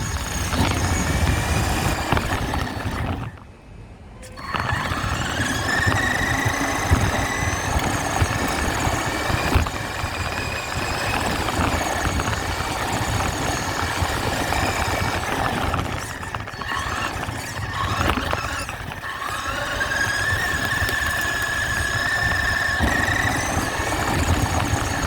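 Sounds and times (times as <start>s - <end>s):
toy truck motor whining: 0.0s - 3.6s, 4.2s - 25.0s.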